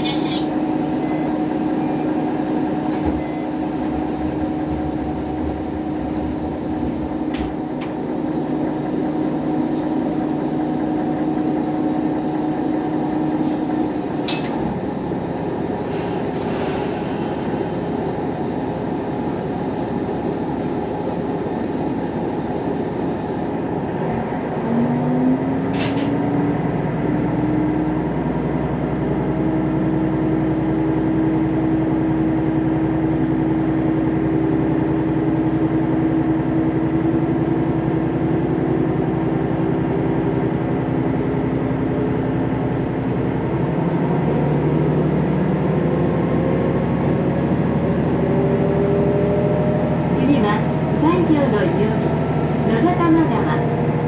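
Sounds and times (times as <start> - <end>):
diesel railcar running rumble: 0.0 - 54.0.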